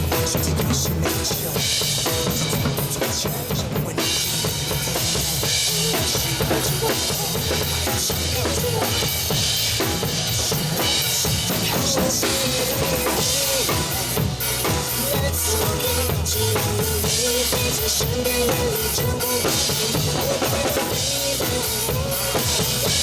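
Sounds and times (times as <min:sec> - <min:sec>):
bass: 0:00.0 - 0:23.0
drum kit beat: 0:00.0 - 0:23.0.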